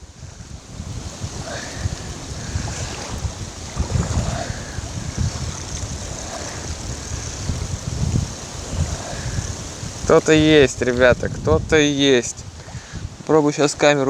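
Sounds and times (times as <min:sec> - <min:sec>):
wind buffeting microphone: 0:00.0 - 0:14.0
wind-driven waves: 0:00.0 - 0:14.0.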